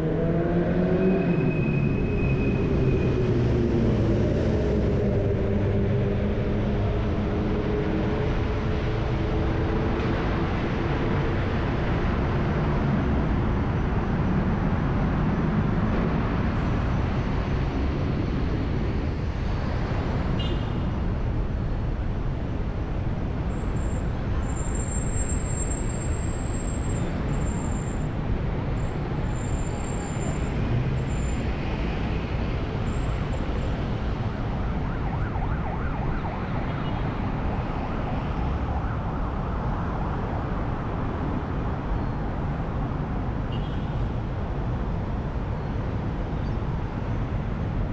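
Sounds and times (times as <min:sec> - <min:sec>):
car engine and tyres rumble: 0:00.0 - 0:47.9.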